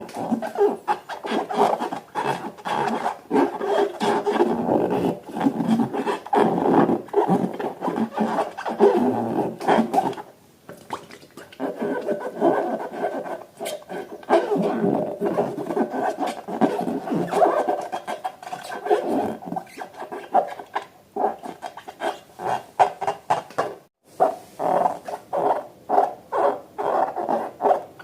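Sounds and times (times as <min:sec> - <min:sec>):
rubber balloons being rubbed: 0:00.0 - 0:10.3, 0:11.4 - 0:23.5, 0:24.2 - 0:28.0.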